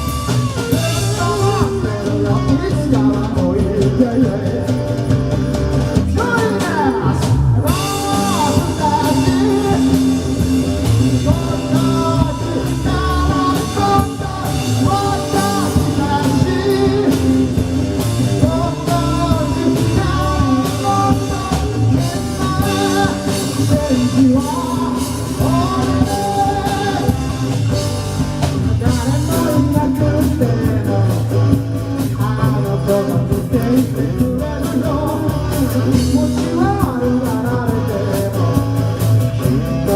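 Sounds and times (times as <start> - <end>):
lead vocal singing: 0.0 - 39.9
live rock band playing: 0.0 - 39.9.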